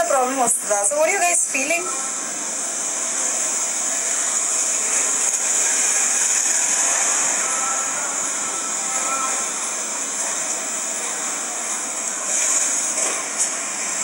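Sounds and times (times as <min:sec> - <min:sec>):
high-pitched background hiss: 0:00.7 - 0:14.0.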